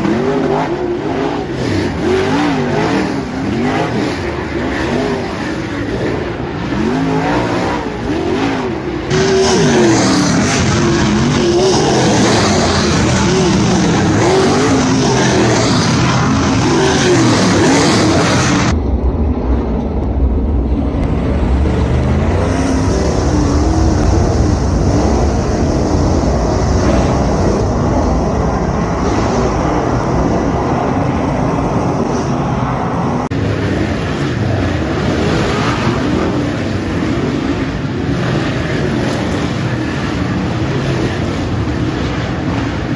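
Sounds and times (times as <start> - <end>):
race car engines roaring: 0.0 - 42.9.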